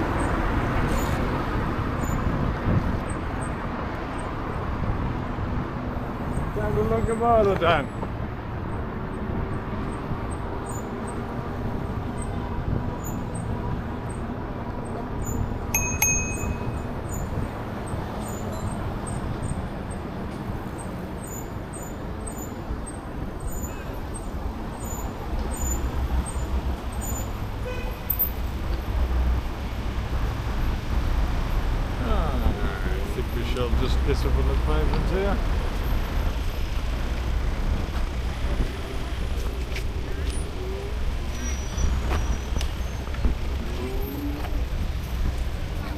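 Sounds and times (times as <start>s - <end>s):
passing traffic rumble: 0.0s - 45.9s.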